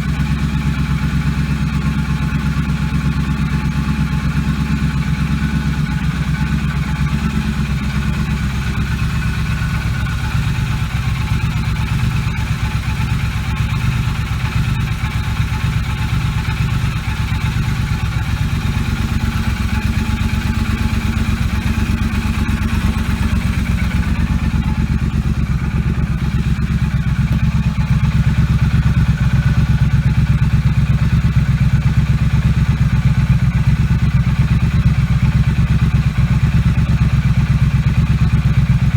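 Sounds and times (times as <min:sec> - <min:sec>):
motorcycle engine exhaust note: 0:01.0 - 0:38.9.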